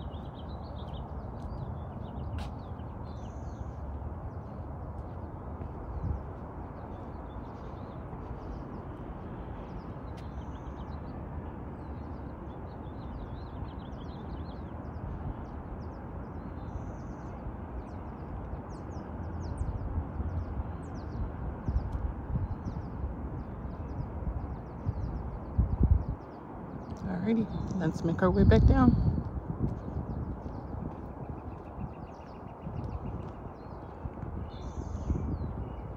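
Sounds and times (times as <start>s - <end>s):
small birds chirping: 0.0s - 11.2s, 11.8s - 35.9s
steady outdoor rush: 0.0s - 35.9s
wind rumbling on microphone: 0.0s - 35.9s.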